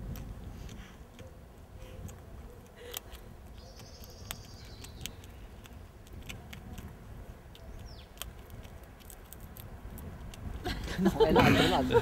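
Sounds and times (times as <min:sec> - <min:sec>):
teeth gnawing on plastic: 0:00.0 - 0:10.6.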